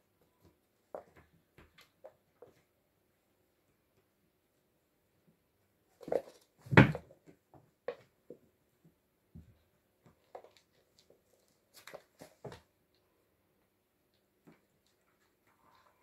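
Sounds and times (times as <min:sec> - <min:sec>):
kittens play-fighting on wooden floor: 0:00.0 - 0:16.0.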